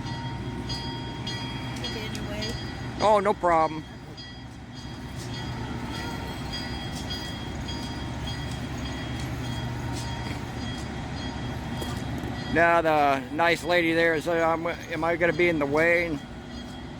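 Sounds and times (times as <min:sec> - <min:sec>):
diesel locomotive rumbling: 0:00.0 - 0:16.9.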